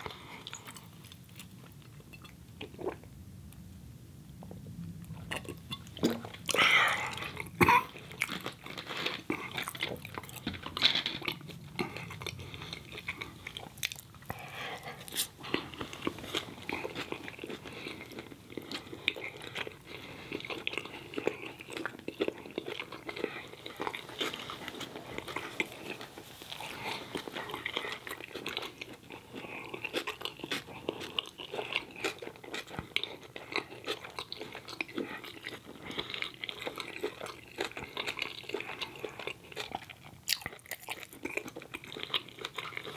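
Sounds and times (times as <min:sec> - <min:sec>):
person chewing: 0:00.0 - 0:03.6, 0:04.9 - 0:42.9.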